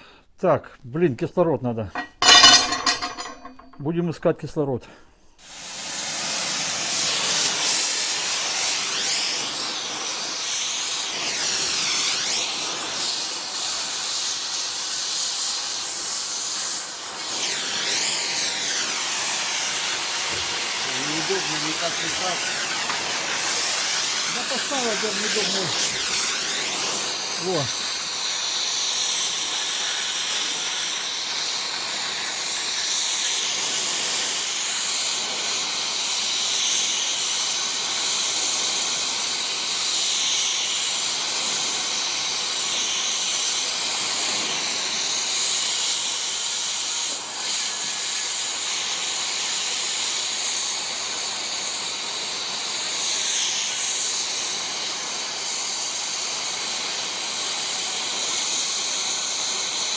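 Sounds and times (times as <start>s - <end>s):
gas torch flame hissing: 5.4s - 59.9s.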